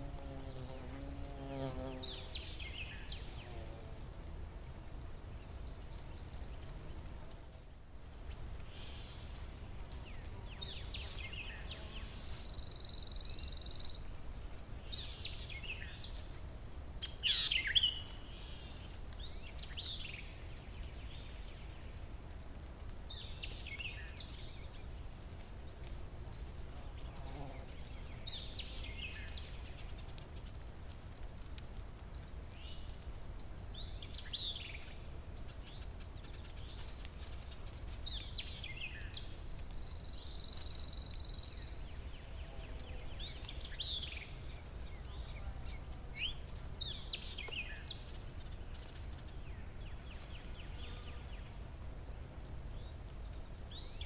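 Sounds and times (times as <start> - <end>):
songbirds singing: 0.0 - 3.8, 5.1 - 16.4, 17.0 - 25.1, 25.8 - 54.0.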